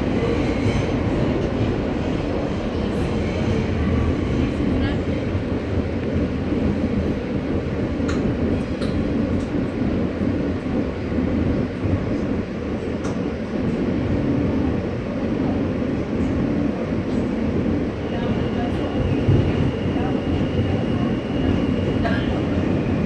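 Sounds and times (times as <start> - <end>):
subway car rumbling on rails: 0.0 - 23.0.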